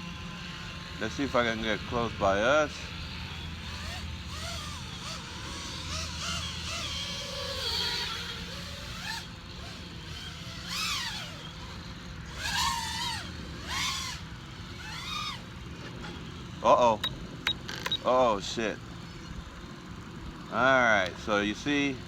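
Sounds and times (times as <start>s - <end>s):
quadcopter motors whining: 0.0s - 22.0s
steady low hum: 0.0s - 22.0s.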